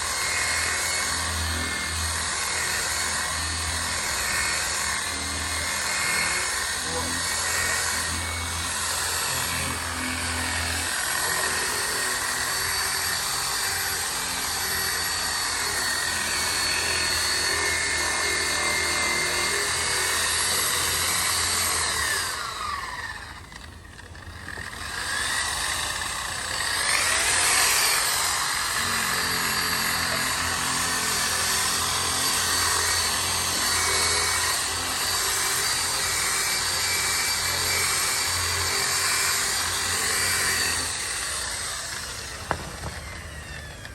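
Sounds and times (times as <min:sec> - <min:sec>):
power tool motor running: 0:00.0 - 0:43.9.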